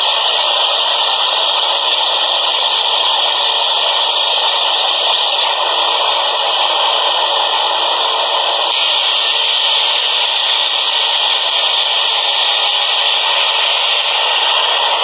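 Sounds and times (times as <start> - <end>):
subway train rushing: 0.0 - 15.0.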